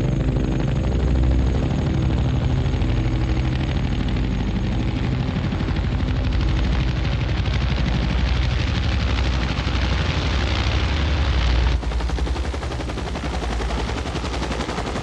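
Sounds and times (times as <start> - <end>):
helicopter rotor blades chopping: 0.0 - 15.0
low engine drone: 0.0 - 15.0.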